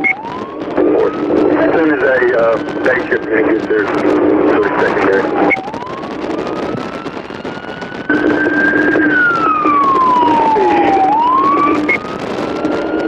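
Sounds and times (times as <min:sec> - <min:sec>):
motorcycle siren wailing: 0:00.0 - 0:13.0
road noise: 0:00.0 - 0:13.0.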